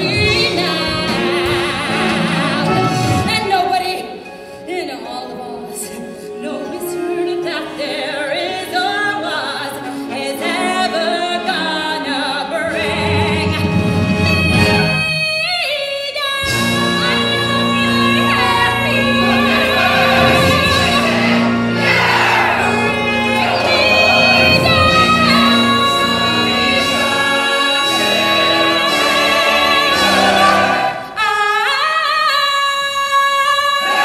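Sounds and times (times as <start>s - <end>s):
pit orchestra playing: 0.0s - 15.6s, 16.3s - 31.8s.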